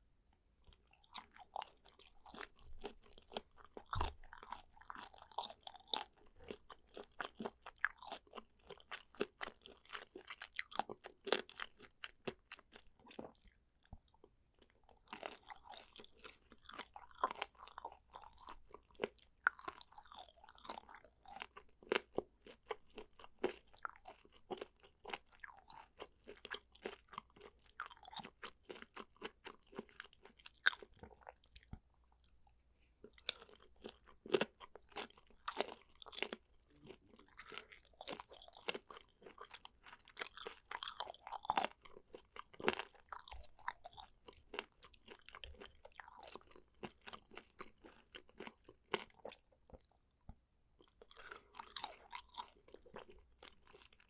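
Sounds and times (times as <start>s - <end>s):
person chewing crunchy food: 0.7s - 54.0s.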